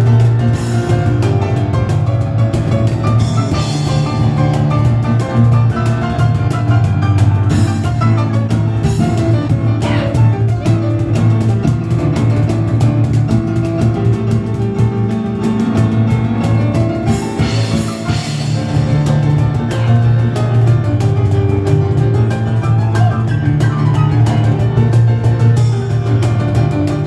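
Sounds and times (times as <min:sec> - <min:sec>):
cajon hits: 0:00.0 - 0:27.0
fast piano playing: 0:00.0 - 0:27.0.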